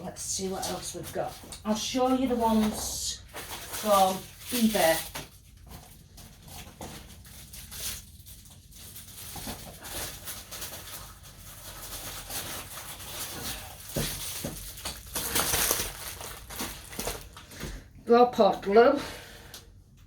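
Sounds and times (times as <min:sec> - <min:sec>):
packaging rustling: 0:00.4 - 0:17.9.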